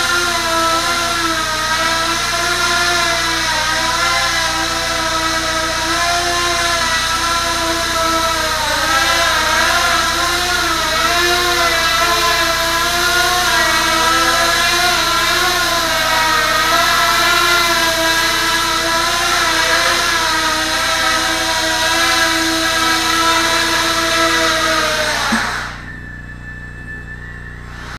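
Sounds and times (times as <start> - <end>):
quadcopter propellers buzzing: 0.0 - 27.9.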